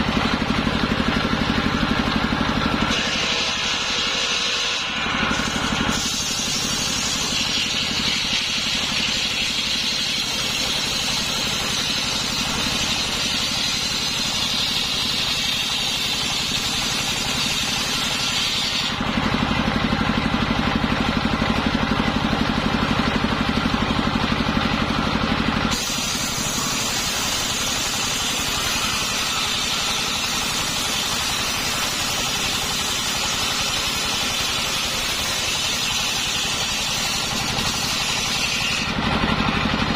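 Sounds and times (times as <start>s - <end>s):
circular saw engine: 0.0s - 39.9s
high saw whine: 0.0s - 39.9s.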